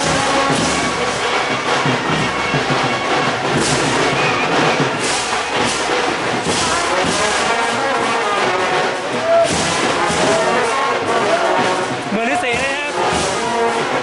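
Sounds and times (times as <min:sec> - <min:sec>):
brass band horns: 0:00.0 - 0:14.0
percussion beat: 0:00.0 - 0:14.0.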